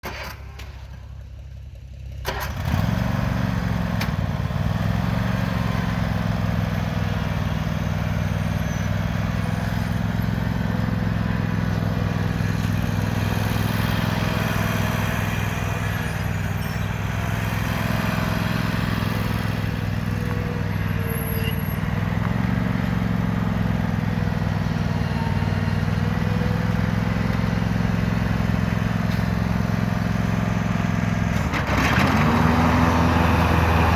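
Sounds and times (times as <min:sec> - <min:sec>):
riding mower engine running: 0:00.0 - 0:33.9.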